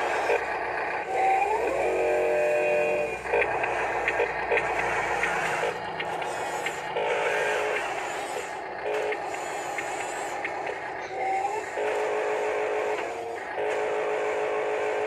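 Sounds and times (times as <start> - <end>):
toy motors whining: 0.0 - 15.0.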